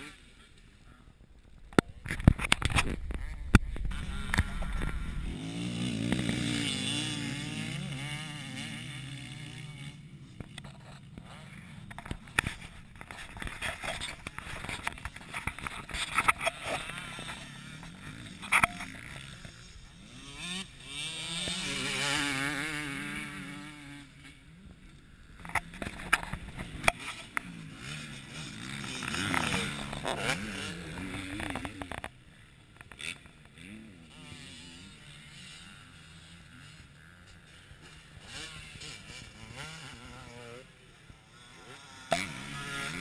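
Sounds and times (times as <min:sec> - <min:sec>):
motocross bike engine: 0:00.0 - 0:43.0.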